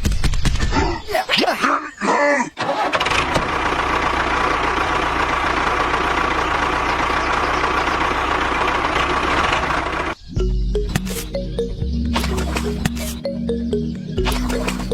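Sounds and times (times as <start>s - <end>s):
tractor engine idling: 2.6s - 14.9s.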